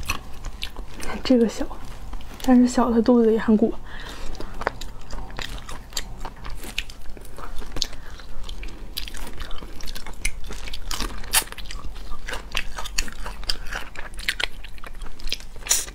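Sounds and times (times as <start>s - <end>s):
chewing: 0.0s - 15.9s.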